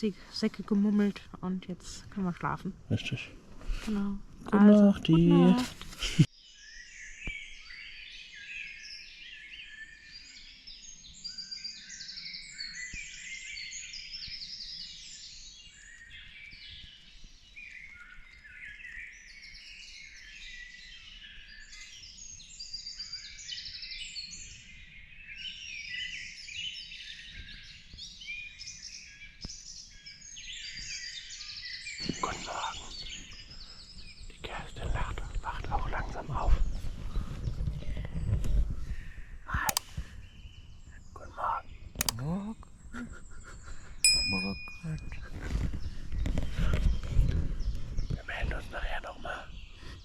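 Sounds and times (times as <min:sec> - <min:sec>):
songbirds singing: 0:06.4 - 0:45.0, 0:46.7 - 0:50.0.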